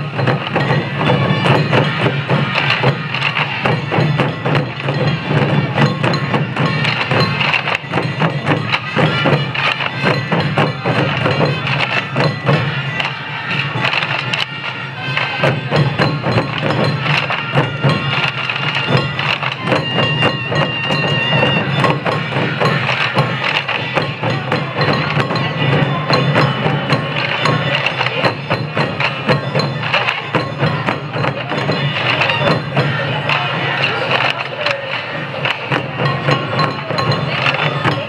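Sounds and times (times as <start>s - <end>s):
group of taiko drums beating: 0.0s - 38.0s.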